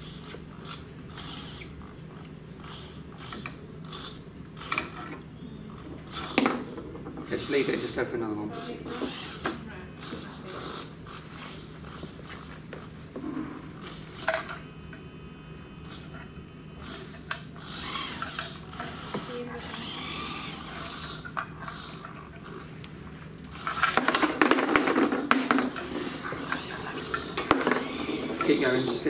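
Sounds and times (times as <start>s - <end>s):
robot motors whirring: 0.0s - 6.7s, 7.3s - 12.9s, 13.7s - 14.6s, 15.8s - 16.2s, 16.8s - 25.0s, 25.6s - 29.0s.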